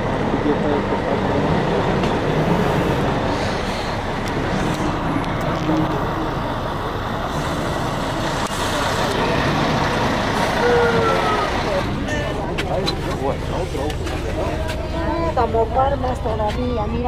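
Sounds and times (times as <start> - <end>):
road noise: 0.0 - 17.0
vehicle engines rumbling: 0.0 - 17.0.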